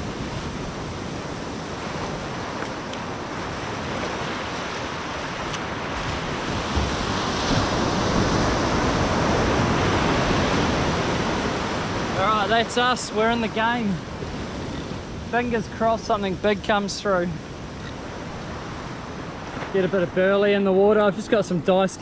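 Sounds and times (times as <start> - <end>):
wind on the microphone: 0.0 - 20.0
surf breaking on a beach: 0.0 - 22.0.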